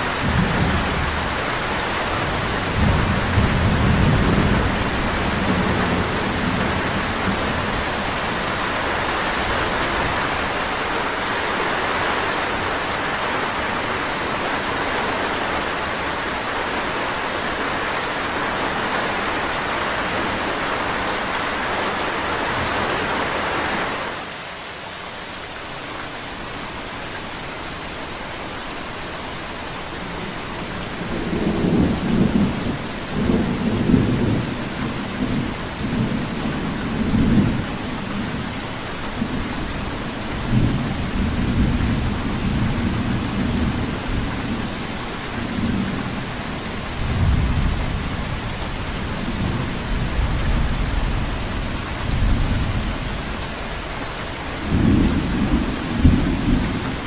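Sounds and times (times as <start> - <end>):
rain hiss: 0.0 - 57.0.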